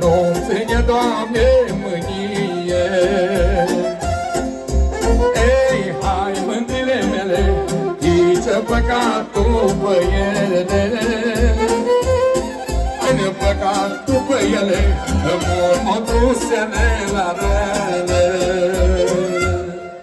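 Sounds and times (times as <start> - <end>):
folk dance violin melody: 0.0 - 20.0.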